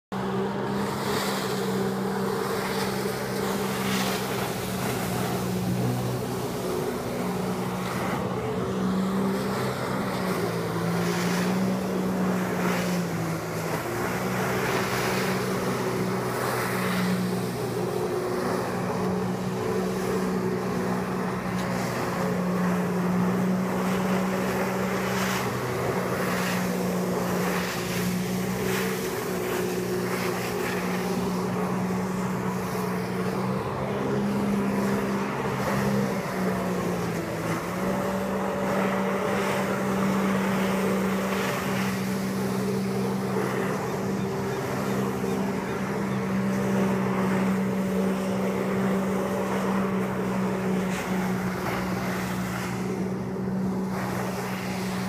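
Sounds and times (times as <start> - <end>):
watercraft engine running hard: 0.0 - 55.0.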